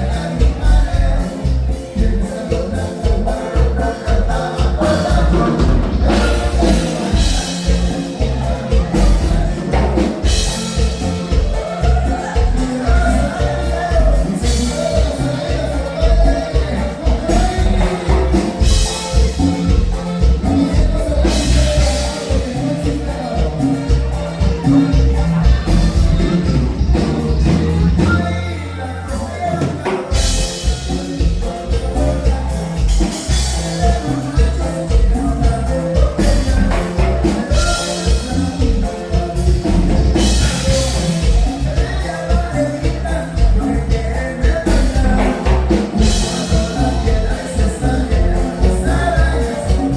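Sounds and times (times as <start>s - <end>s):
band music with bass beat: 0.0s - 49.9s.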